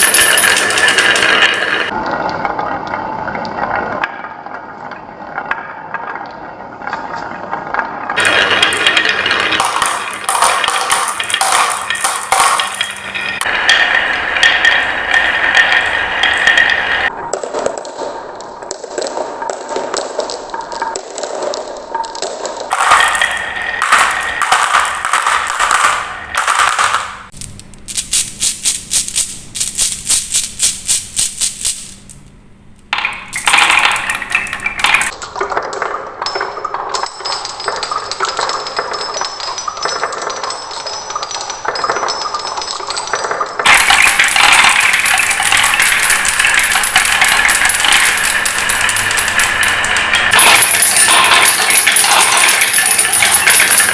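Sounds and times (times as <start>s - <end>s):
marbles rattling down wooden tracks: 0.0s - 2.0s, 8.1s - 32.1s, 32.9s - 53.9s.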